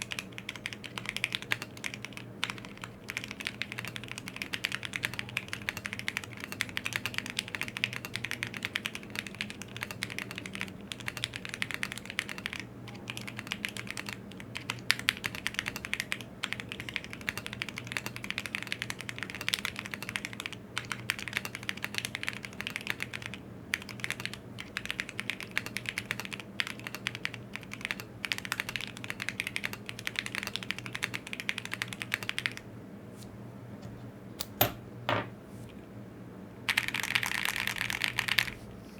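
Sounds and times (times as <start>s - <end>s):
mechanical keyboard typing: 0.0s - 32.6s, 36.7s - 38.6s.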